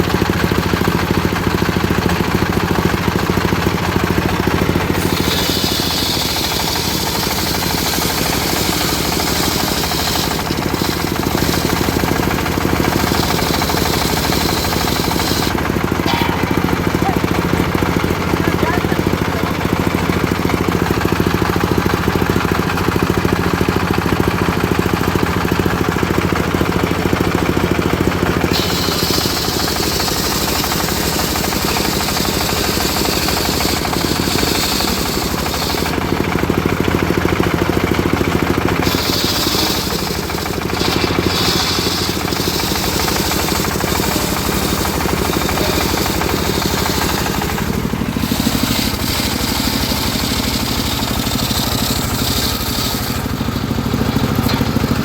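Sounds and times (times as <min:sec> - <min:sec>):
saw rig engine running: 0:00.0 - 0:55.0
saw blade hissing through wood: 0:00.2 - 0:22.0, 0:28.2 - 0:55.0.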